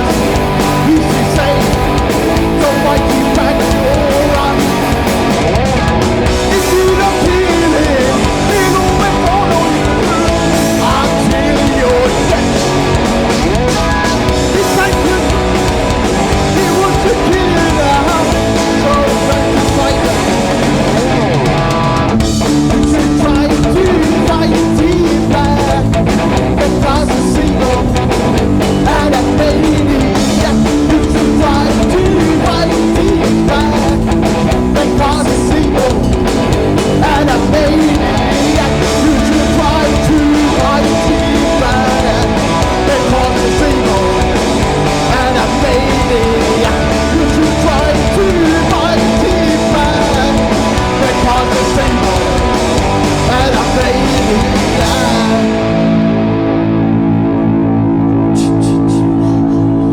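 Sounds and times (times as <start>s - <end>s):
person singing: 0.0s - 5.2s, 5.8s - 22.1s, 22.7s - 56.3s, 57.5s - 59.9s
punk rock band playing: 0.0s - 59.9s.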